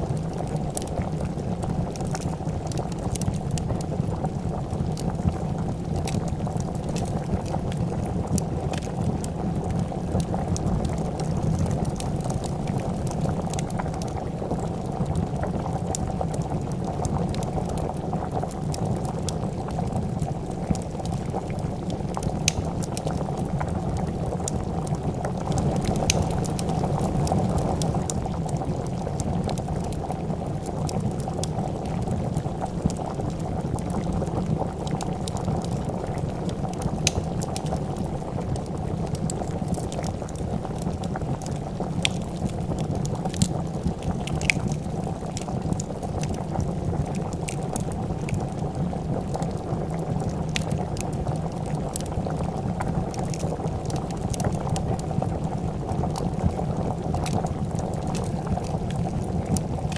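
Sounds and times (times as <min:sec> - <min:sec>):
soup boiling in pot: 0:00.0 - 0:59.9
wood fire crackling: 0:00.0 - 0:59.9.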